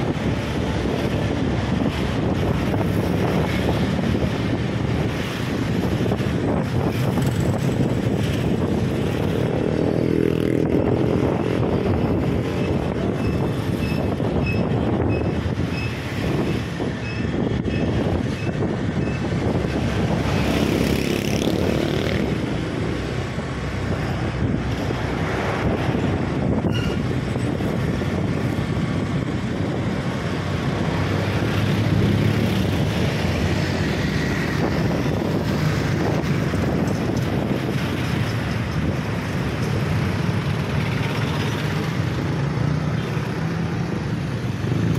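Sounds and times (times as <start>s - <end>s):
wind and road noise: 0.0s - 44.9s.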